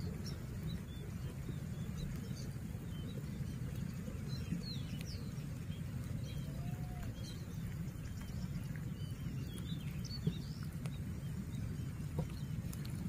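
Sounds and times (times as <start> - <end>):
small birds chirping: 0.0 - 13.0
wind rumble on microphone: 0.0 - 13.0.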